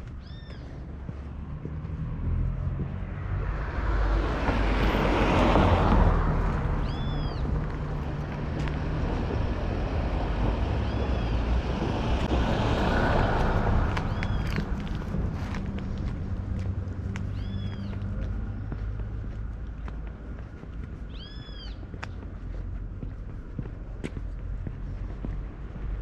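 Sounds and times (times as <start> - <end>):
vehicle passing: 0.6 - 26.0.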